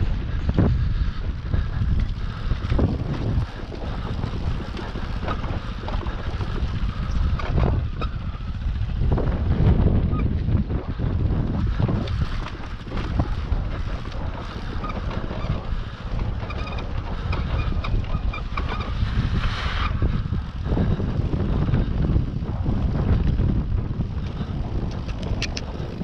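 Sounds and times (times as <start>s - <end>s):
dirt bike rolling: 0.0s - 26.0s
knocks and rattles from bike: 0.0s - 26.0s
wind buffeting microphone: 0.0s - 26.0s.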